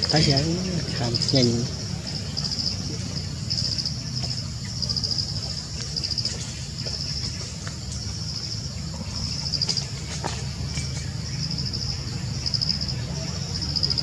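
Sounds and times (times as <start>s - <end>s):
insects trilling in pulsed bursts: 0.0s - 14.0s
steady low rumble: 0.0s - 14.0s.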